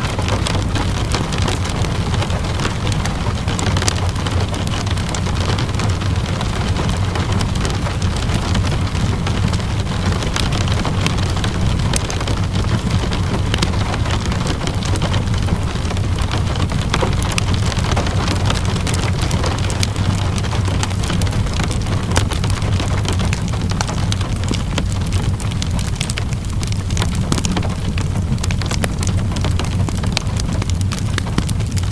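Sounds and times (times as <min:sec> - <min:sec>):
steady rainfall: 0:00.0 - 0:31.9
wood fire crackling: 0:00.0 - 0:31.9.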